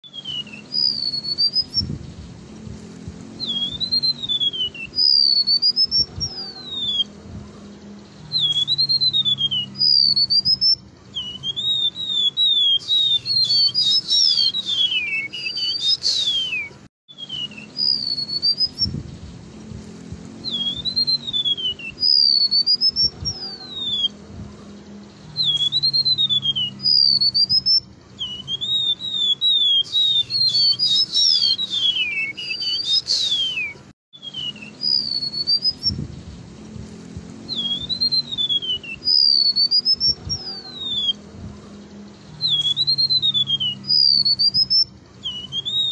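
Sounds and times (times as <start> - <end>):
bird singing high whistled notes: 0.0 - 45.9.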